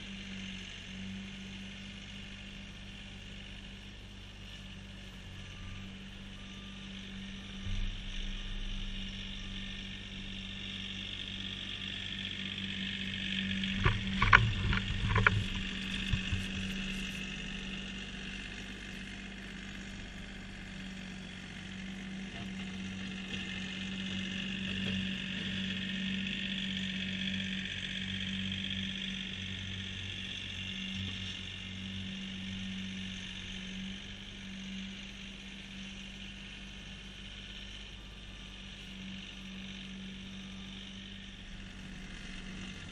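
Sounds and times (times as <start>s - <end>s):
diesel tractor engine running: 0.0s - 42.9s.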